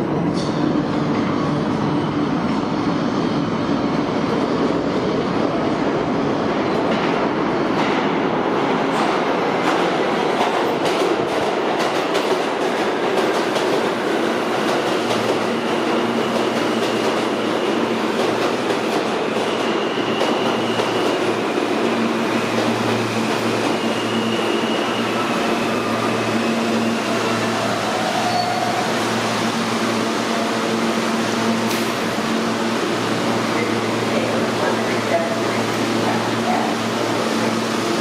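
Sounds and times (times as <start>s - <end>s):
subway train rumbling: 0.0s - 38.0s.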